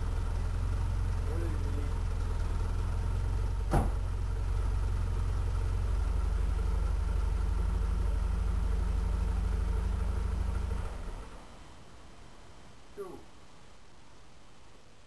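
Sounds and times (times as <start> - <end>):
car engine idling: 0.0 - 12.7.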